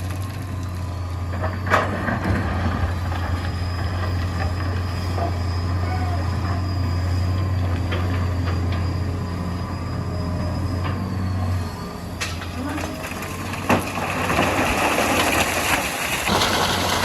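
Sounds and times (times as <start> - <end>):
excavator diesel engine drone: 0.0 - 17.0.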